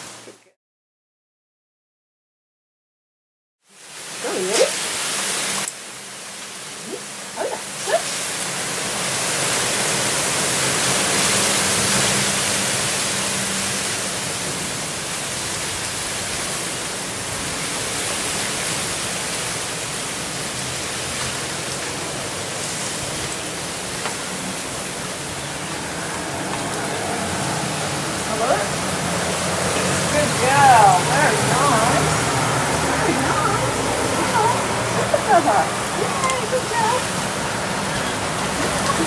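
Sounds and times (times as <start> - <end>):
wind blowing: 4.2 - 39.0.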